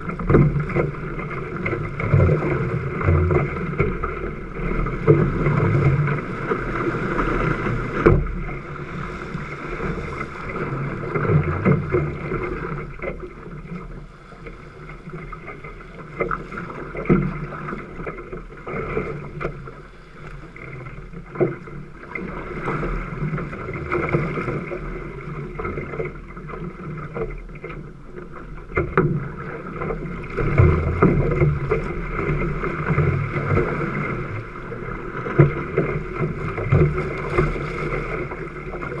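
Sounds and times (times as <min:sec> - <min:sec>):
knocks and splashes: 0:00.0 - 0:39.0
water rushing along a hull: 0:00.0 - 0:39.0
wind rumble on microphone: 0:00.0 - 0:39.0.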